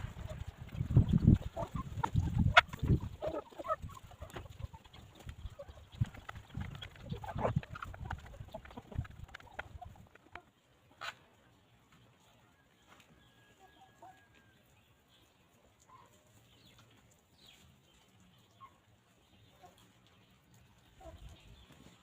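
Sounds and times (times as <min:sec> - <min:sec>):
hens clucking softly: 0:00.0 - 0:14.7, 0:15.3 - 0:22.0.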